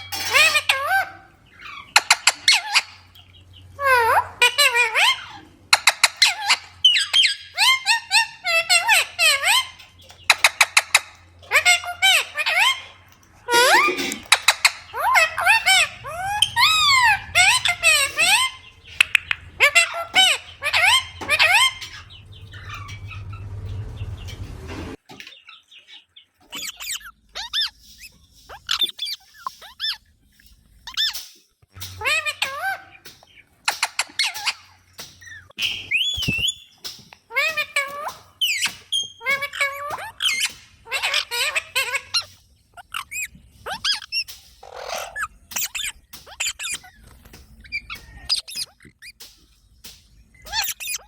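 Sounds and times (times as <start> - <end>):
parrot shrill squeaky calls: 0.0 - 3.1, 3.8 - 23.9, 26.5 - 30.1, 30.8 - 31.3, 32.0 - 33.0, 33.7 - 49.2, 50.4 - 51.0.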